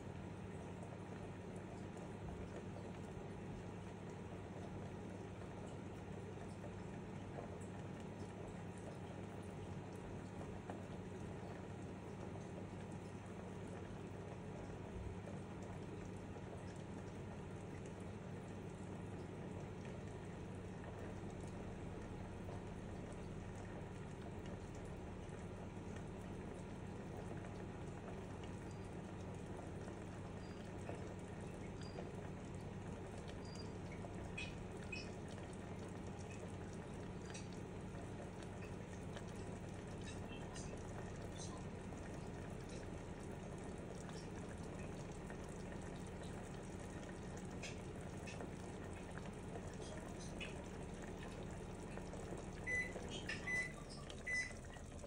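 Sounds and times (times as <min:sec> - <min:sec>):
pot simmering with low hiss: 0:00.0 - 0:55.0
faint bubbling pops: 0:00.3 - 0:55.0.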